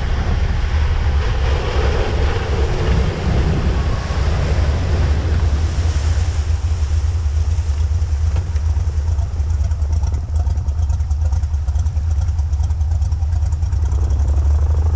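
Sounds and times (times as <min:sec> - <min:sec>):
propeller plane engine humming: 0:00.0 - 0:14.9
water splashing and rushing: 0:00.0 - 0:14.9.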